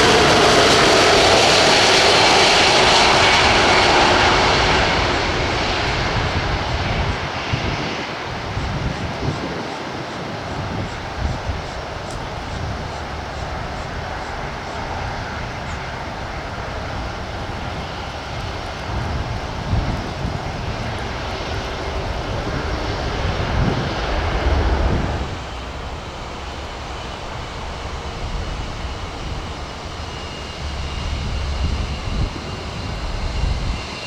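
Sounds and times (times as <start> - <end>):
jet engines rushing and rumbling: 0.0 - 34.0.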